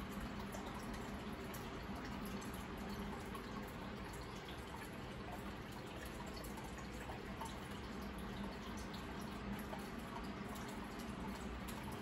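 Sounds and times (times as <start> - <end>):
aquarium water bubbling: 0.0 - 12.0
low steady hum: 0.0 - 12.0
small water drips and pops: 0.0 - 12.0.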